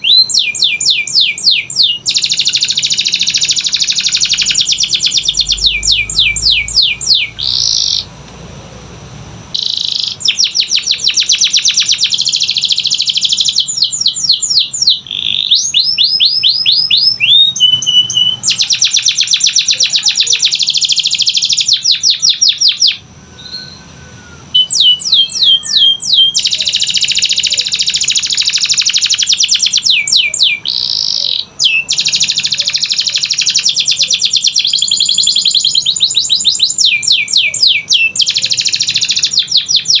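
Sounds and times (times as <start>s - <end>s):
canary singing trills: 0.0s - 8.1s, 9.5s - 40.0s.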